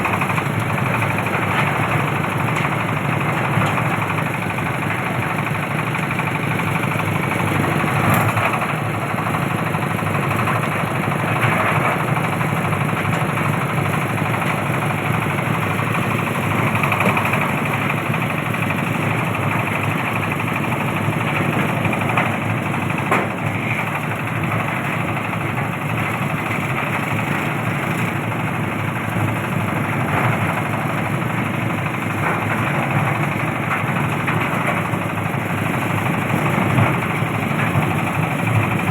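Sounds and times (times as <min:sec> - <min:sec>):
fruit stripping machine running: 0:00.0 - 0:38.9.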